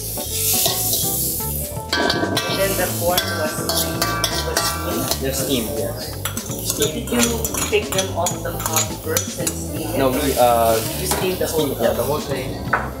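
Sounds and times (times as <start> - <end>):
metal tongs scraping a wok: 0.0 - 12.4.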